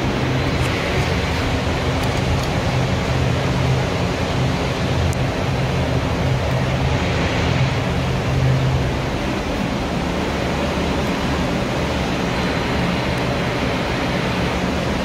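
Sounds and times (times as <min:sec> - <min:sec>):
low hum: 0:00.0 - 0:15.0
ventilation air rushing: 0:00.0 - 0:15.0.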